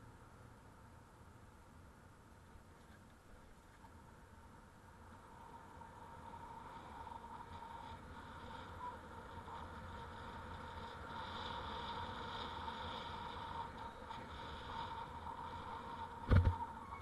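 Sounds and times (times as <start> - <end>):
faint steady whine: 0.0 - 17.0
bicycle rolling on asphalt: 0.1 - 17.0.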